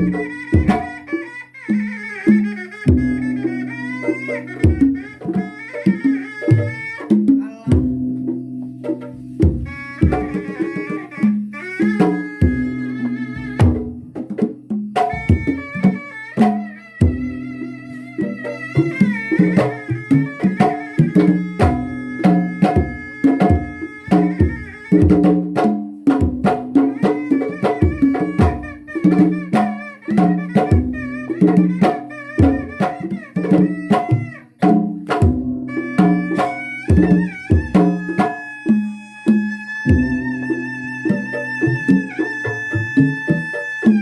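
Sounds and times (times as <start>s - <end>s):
reed pipe melody: 0.0s - 14.2s, 15.1s - 26.1s, 26.7s - 44.0s
hand drums playing quick rhythm: 0.0s - 44.0s.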